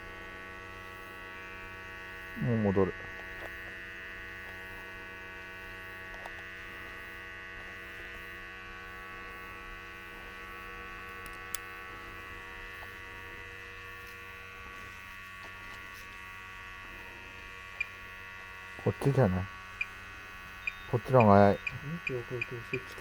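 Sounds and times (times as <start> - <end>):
small motor humming: 0.0 - 23.0.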